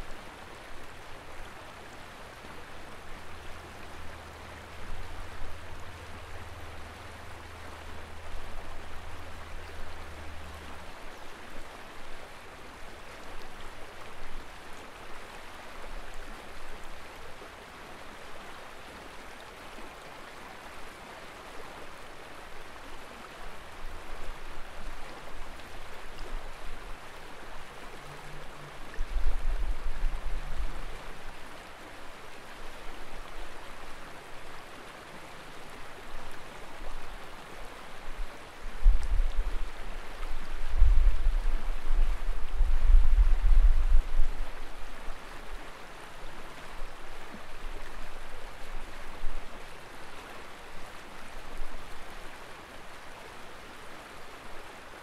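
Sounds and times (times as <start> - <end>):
river flowing over rocks: 0.0 - 55.0.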